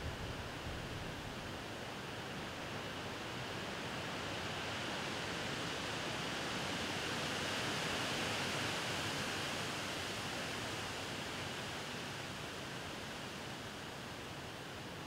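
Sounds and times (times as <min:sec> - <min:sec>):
wind rustling tree leaves: 0:00.0 - 0:15.0.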